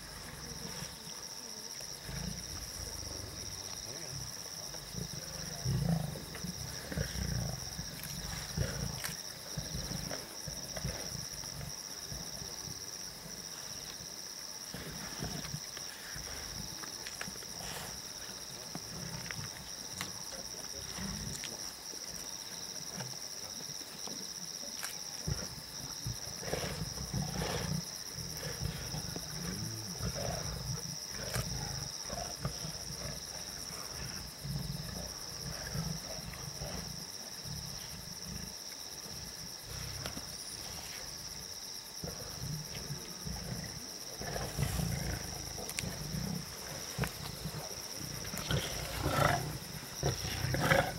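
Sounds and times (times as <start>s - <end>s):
lions growling and snarling: 0.0s - 24.0s, 25.0s - 50.9s.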